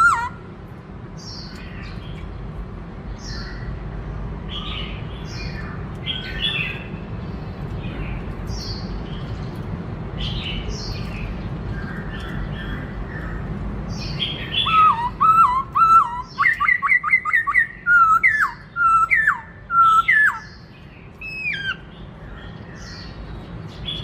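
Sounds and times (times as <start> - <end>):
bird chirping: 0.0 - 0.5, 1.1 - 2.5, 3.1 - 3.8, 4.5 - 24.0.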